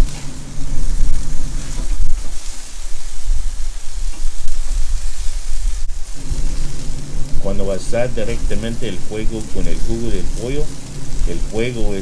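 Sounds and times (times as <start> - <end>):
chicken sizzling on a grill: 0.0 - 12.0
juices dripping into flames: 0.0 - 12.0
steady low rumble: 0.0 - 12.0.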